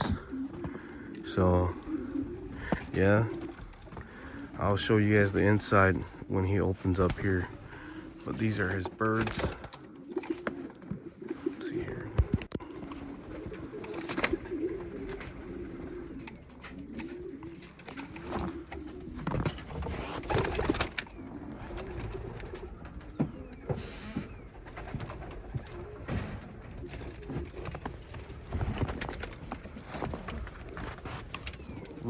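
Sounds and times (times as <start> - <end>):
pigeons cooing: 0.0 - 32.0.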